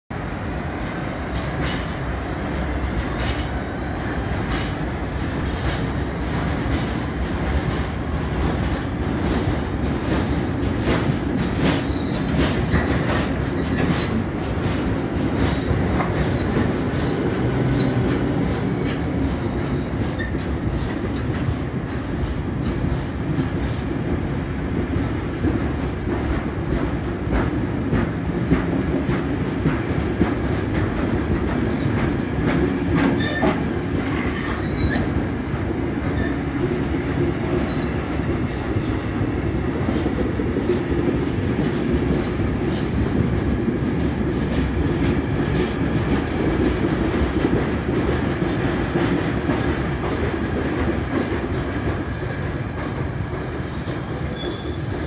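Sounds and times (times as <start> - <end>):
train wagons rumbling past: 0.1 - 55.0.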